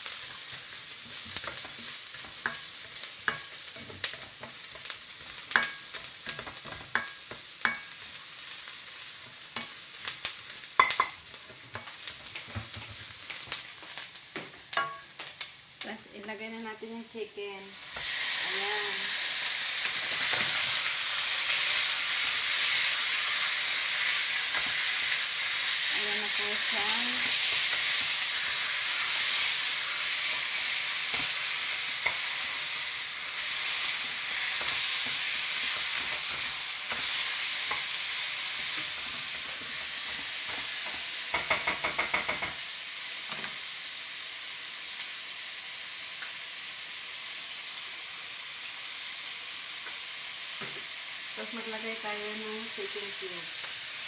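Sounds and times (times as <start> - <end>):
meat sizzling in hot oil: 0.0 - 54.0.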